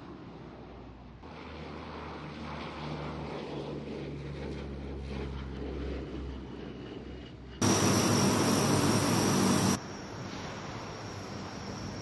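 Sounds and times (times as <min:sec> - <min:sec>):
turboprop aircraft droning: 0:00.0 - 0:12.0.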